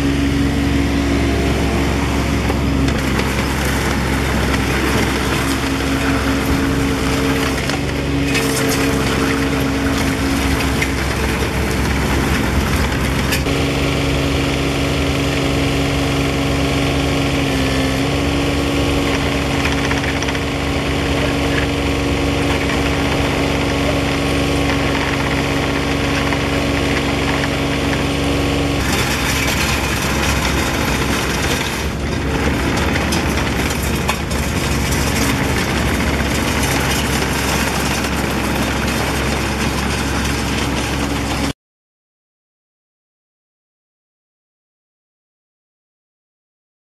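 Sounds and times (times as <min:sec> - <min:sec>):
excavator diesel engine running: 0:00.0 - 0:41.6.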